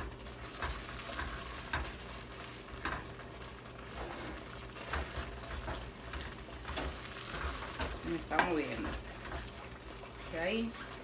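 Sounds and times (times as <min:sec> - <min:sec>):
wooden spoon scraping pot: 0:00.3 - 0:11.0.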